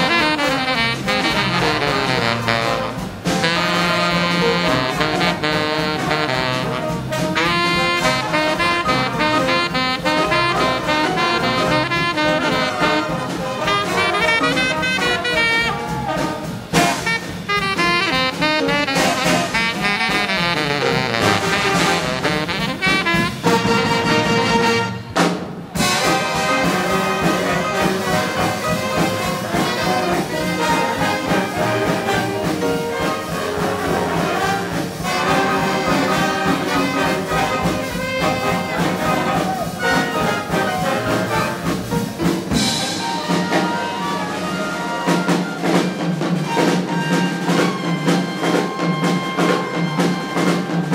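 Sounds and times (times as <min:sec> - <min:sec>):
big band playing swing jazz: 0:00.0 - 0:50.9.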